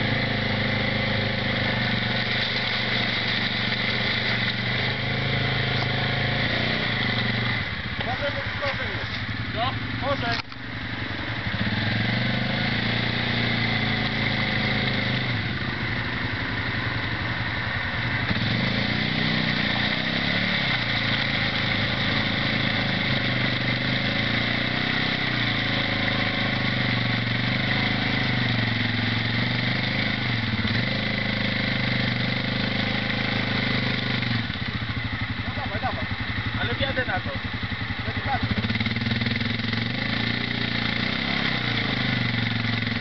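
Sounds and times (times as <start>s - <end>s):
quad bike engine revving: 0.0s - 43.0s.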